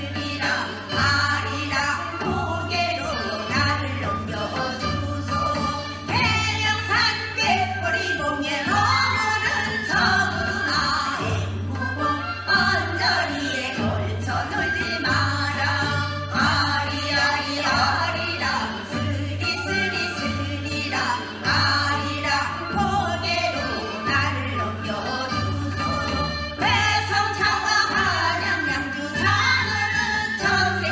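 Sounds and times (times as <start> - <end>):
folk singing with ornamented vocal: 0.0 - 30.9
musical accompaniment: 0.0 - 30.9.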